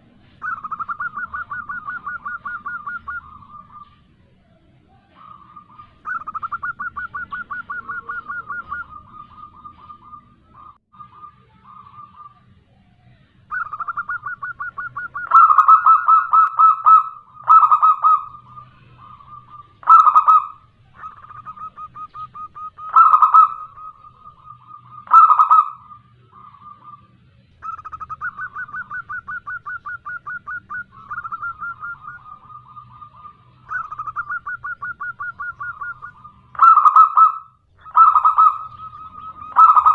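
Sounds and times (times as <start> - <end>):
dove cooing trills: 0.0 - 39.9.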